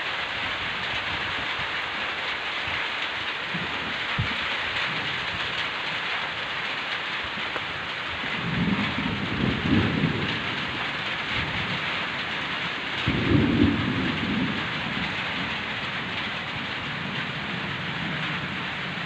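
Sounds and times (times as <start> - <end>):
heavy rain falling: 0.0 - 19.0
thunder rumbling: 0.5 - 19.0.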